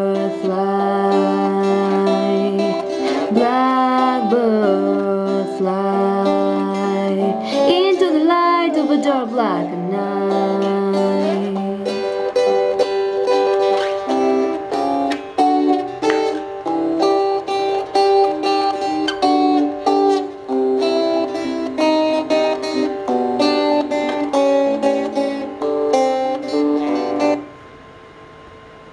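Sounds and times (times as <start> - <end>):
fingerpicked acoustic guitar: 0.0 - 27.6.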